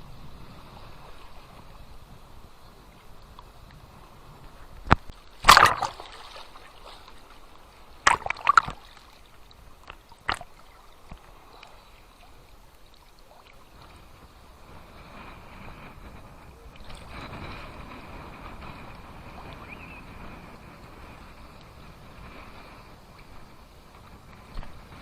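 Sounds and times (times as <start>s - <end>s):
faint water wash: 0.0s - 25.0s
waves splashing at water's edge: 0.0s - 25.0s.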